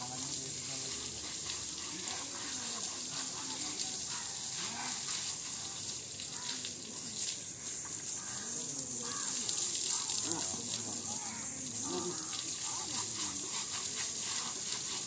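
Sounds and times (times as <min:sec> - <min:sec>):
faint voices talking: 0:00.0 - 0:14.6
hose water spraying on hide: 0:00.0 - 0:15.0.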